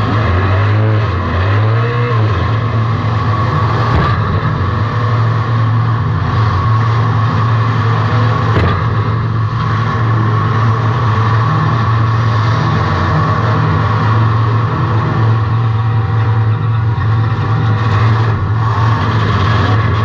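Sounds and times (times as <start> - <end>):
race car engine running: 0.0 - 20.0
road and tyre noise: 0.0 - 20.0.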